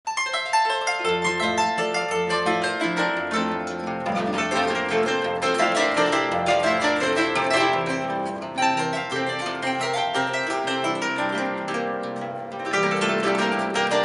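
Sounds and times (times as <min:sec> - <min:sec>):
harps playing a duet: 0:00.1 - 0:14.0.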